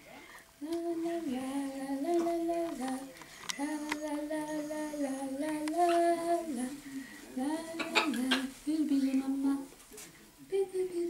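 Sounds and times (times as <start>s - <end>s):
woman singing wordless tune: 0.6s - 9.8s, 10.5s - 11.0s.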